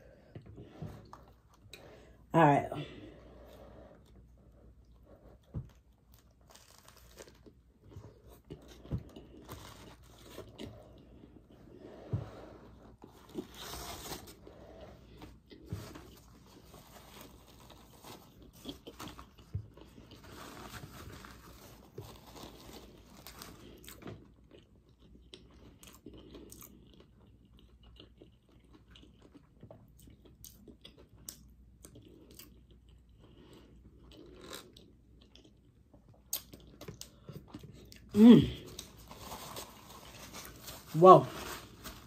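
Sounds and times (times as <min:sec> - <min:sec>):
person chewing crunchy food: 0:03.4 - 0:41.0.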